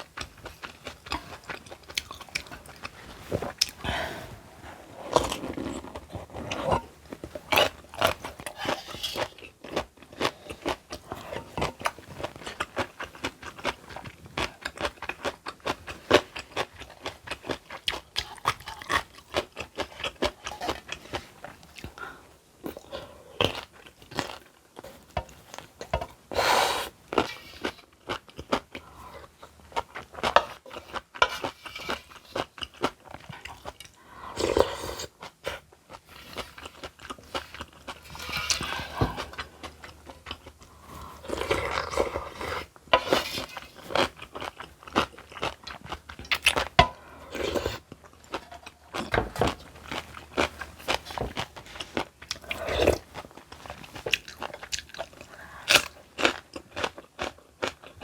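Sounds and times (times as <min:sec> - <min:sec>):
crunchy chewing: 0:00.0 - 0:04.4, 0:05.0 - 0:58.0.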